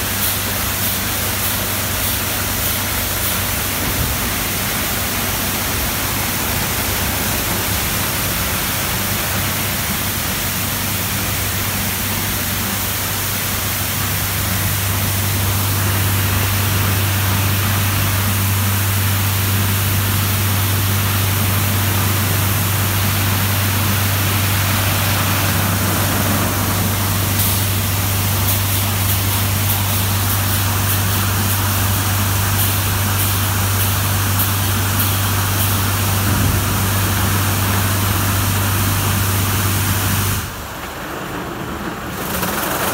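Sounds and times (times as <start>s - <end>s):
low machine hum: 0.0s - 42.4s
car wash brushes and water spray: 0.0s - 42.9s.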